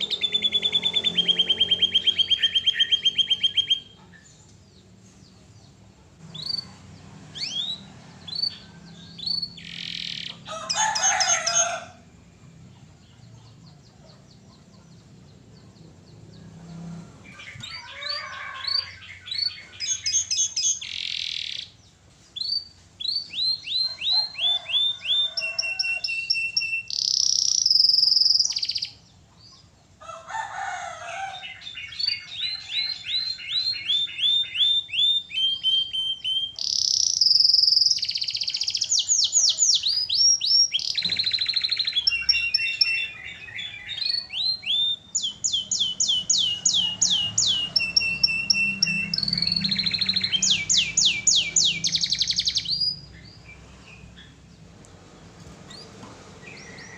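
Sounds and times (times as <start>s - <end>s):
canary singing fast trills: 0.0s - 29.8s, 31.3s - 54.7s.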